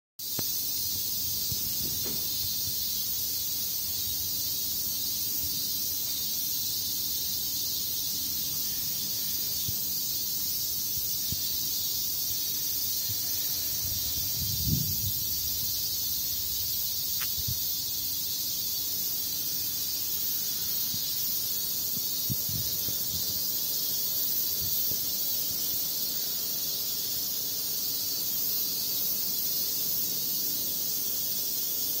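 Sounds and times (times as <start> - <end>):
cicadas chorus: 0.2 - 32.0.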